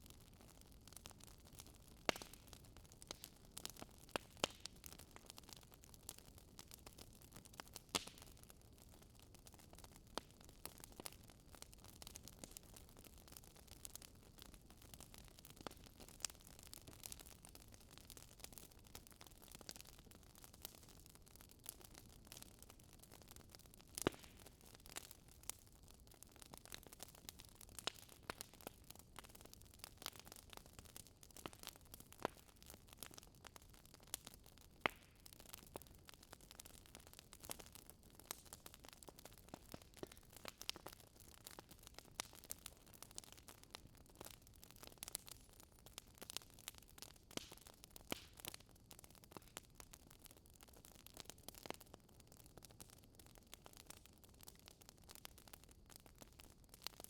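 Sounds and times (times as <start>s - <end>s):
fire popping: 0.0s - 57.0s
wood fire crackling: 0.0s - 57.0s.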